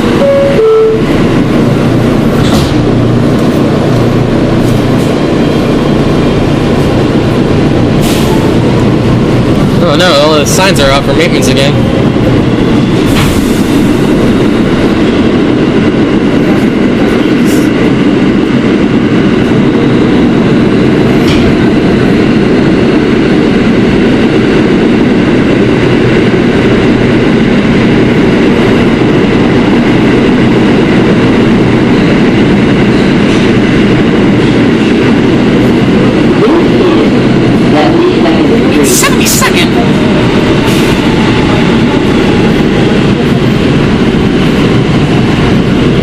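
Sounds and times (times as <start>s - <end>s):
subway wheels rumbling on rails: 0.0s - 46.0s.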